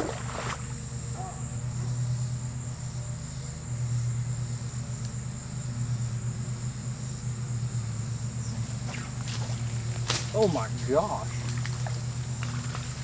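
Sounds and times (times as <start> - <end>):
insects chirring: 0.0 - 13.0
low hum: 0.0 - 13.0.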